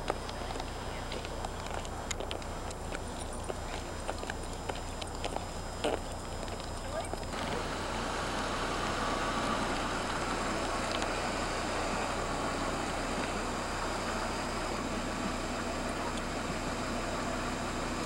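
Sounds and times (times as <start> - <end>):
car engine and tyre noise: 0.0 - 18.0.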